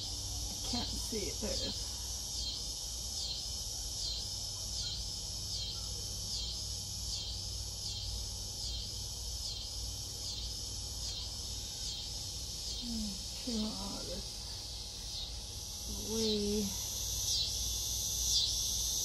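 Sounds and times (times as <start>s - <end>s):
insects pulsing buzz: 0.0s - 19.0s
low steady hum: 0.0s - 19.0s.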